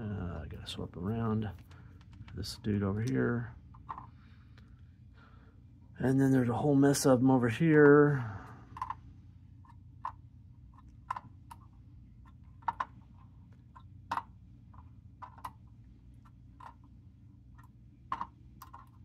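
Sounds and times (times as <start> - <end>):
low steady background hum: 0.0 - 19.0.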